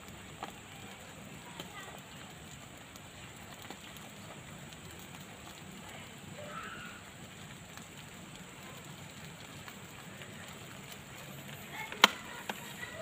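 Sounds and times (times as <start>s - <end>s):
fish sizzling over charcoal: 0.0s - 13.0s.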